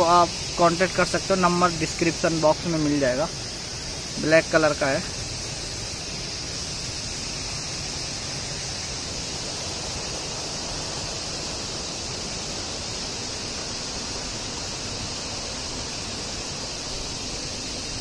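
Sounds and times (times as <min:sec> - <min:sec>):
outdoor rushing hiss: 0:00.0 - 0:18.0.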